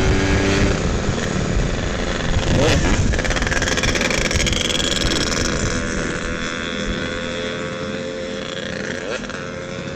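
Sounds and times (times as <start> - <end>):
two-stroke motorcycle engine running: 0.0 - 9.9.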